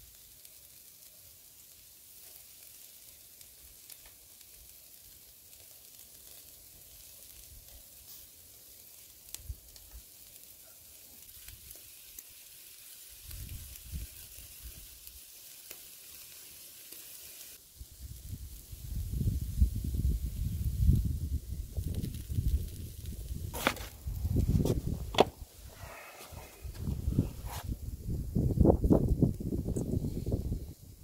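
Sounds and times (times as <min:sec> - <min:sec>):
small crackles: 0:00.0 - 0:27.8
meat sizzling over charcoal: 0:00.0 - 0:31.0.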